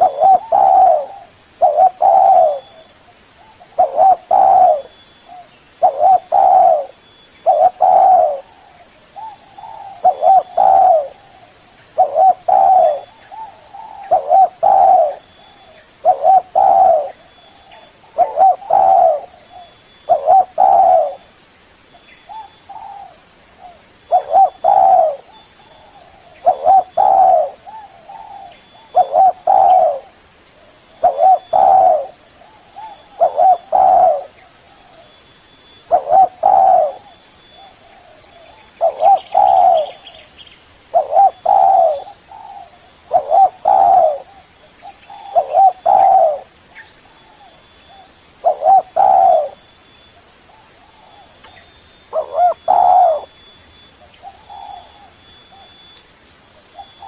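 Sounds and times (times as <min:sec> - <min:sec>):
dove cooing: 0:00.0 - 0:21.3, 0:22.3 - 0:49.7, 0:50.5 - 0:56.0, 0:56.6 - 0:57.0.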